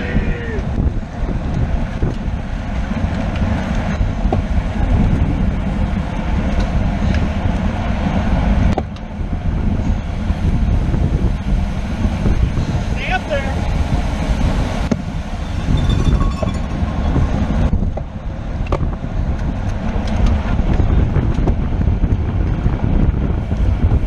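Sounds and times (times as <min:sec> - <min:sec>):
tyre and road noise: 0:00.0 - 0:24.0
wind buffeting microphone: 0:00.0 - 0:24.0.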